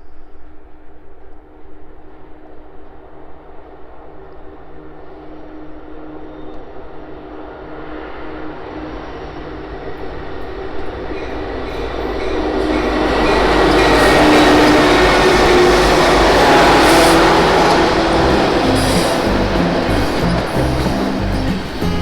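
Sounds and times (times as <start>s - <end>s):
freight train passing: 0.1s - 22.0s.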